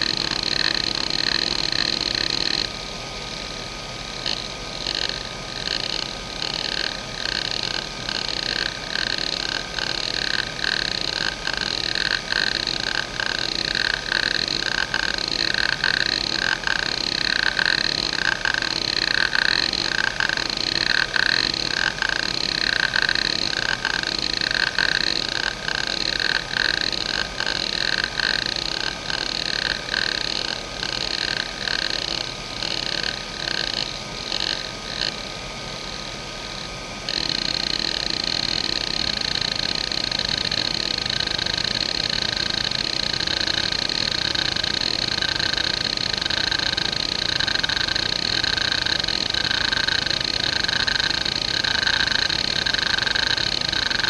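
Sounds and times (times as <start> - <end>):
hard drive seek chatter: 0.0 - 54.0.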